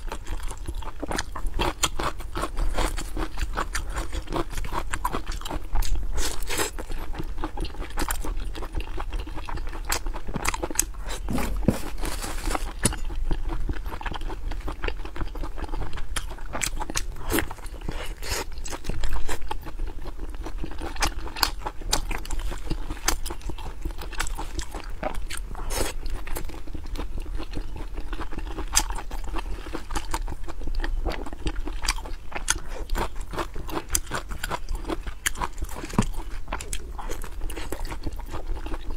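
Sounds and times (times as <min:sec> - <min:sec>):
person chewing sausages: 0:00.0 - 0:38.9.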